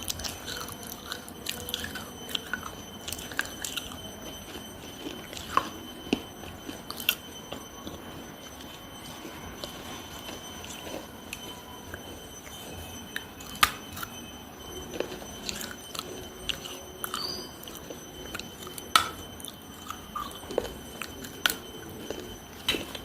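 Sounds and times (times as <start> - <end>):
biting and chewing clay: 0.0 - 23.0.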